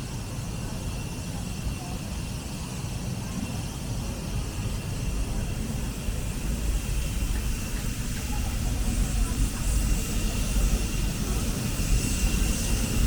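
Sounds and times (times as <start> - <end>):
low rumble of city ambience: 0.0 - 13.0.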